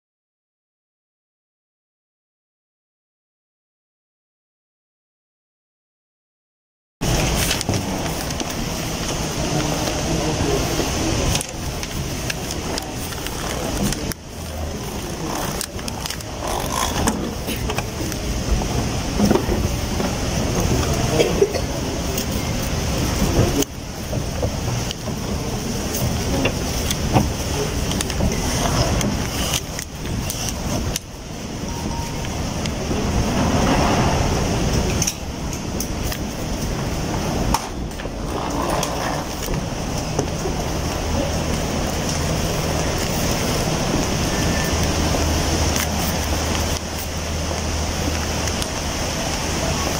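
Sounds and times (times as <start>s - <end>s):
scattered clicks and knocks: 7.0s - 10.1s, 11.2s - 31.6s, 32.2s - 49.9s
airport terminal rumble: 7.0s - 49.9s
hall hum and hiss: 7.0s - 49.9s
suitcase wheels rolling on stone floor: 7.0s - 49.9s.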